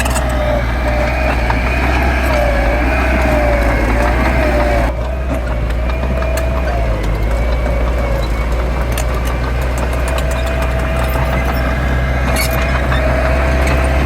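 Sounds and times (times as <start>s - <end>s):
diesel machinery rumbling: 0.0s - 14.0s
light clicks and clanks: 0.0s - 14.0s.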